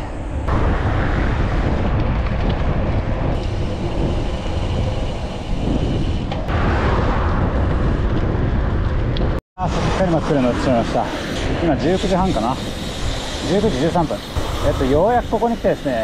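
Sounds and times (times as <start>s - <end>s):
road and traffic noise: 0.0s - 6.6s, 7.5s - 16.0s
wind rumbling on microphone: 0.0s - 16.0s.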